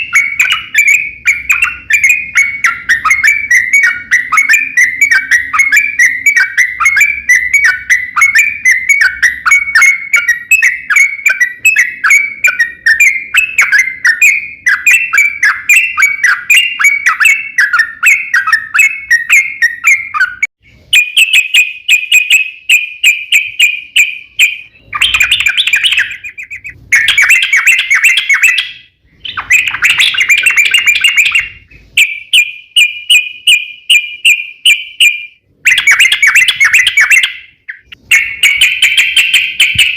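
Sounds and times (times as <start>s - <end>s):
bulbul singing trills: 0.0s - 39.9s.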